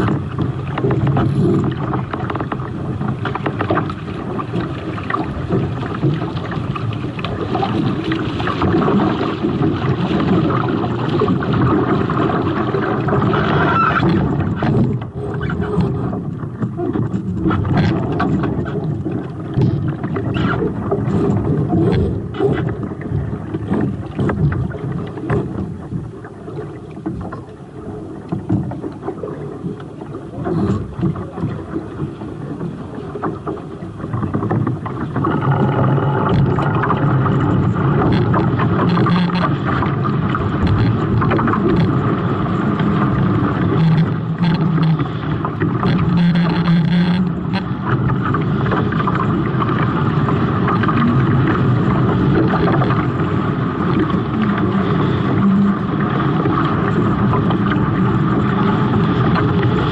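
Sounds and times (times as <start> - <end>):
water rushing along hulls: 0.0 - 59.9
wind buffeting microphone: 0.0 - 59.9.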